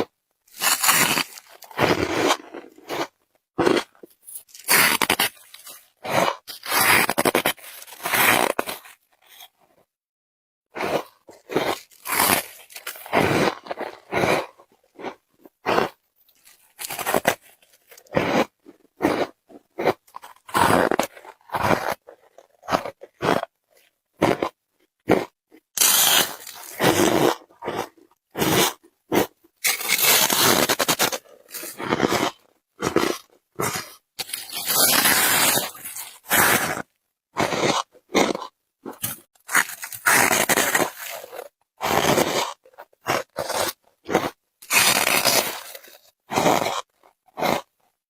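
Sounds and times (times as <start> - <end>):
crunching and chewing ice: 0.5 - 9.6, 10.8 - 48.0.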